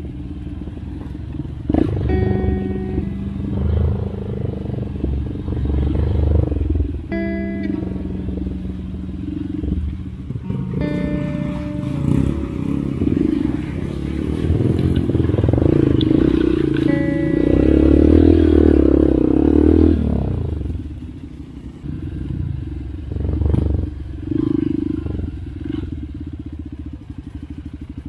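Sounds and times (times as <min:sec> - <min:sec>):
dirt bike engine revving: 0:00.9 - 0:26.9.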